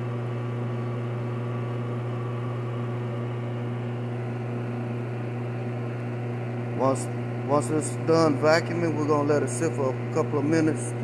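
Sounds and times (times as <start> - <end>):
vacuum pump humming: 0.0 - 11.0.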